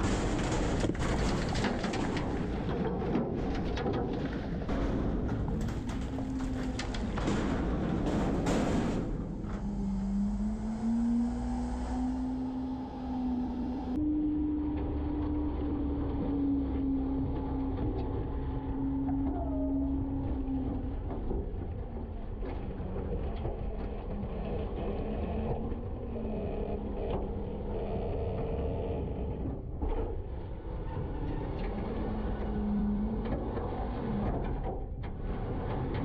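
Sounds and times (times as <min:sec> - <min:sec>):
garbage truck engine drone: 0:00.0 - 0:36.0.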